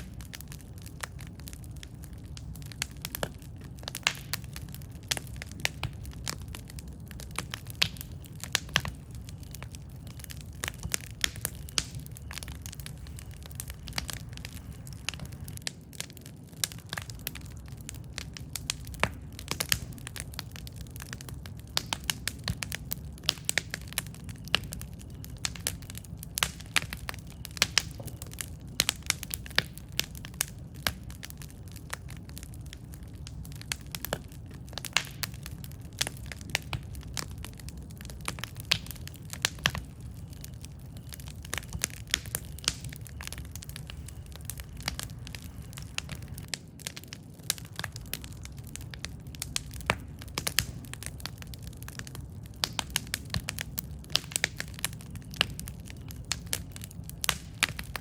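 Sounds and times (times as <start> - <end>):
campfire crackling and popping: 0.0 - 58.0
low rumble of burning fire: 0.0 - 58.0.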